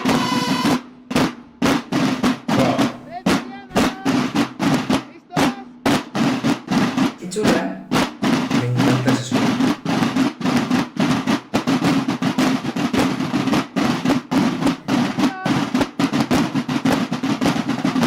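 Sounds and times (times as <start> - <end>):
marching snare drums: 0.0 - 18.0.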